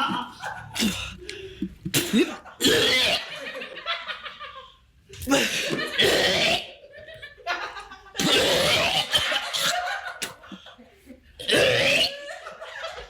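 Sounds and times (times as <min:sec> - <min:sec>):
people laughing: 0:00.0 - 0:01.6, 0:02.2 - 0:11.4, 0:12.1 - 0:13.0.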